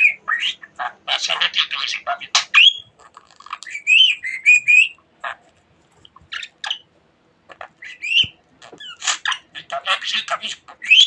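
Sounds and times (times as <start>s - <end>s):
budgerigar chirping: 0.0s - 5.4s, 6.3s - 6.9s, 7.5s - 11.0s.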